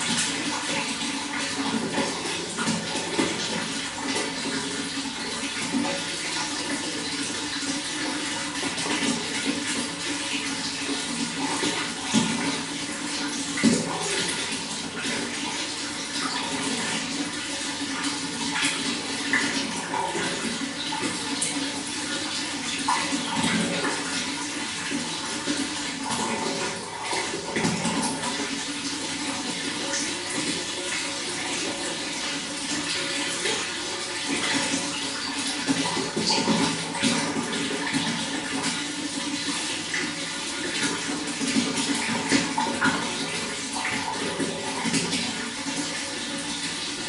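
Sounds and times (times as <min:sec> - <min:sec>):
running water flowing: 0:00.0 - 0:47.0
water splashes: 0:00.0 - 0:47.0.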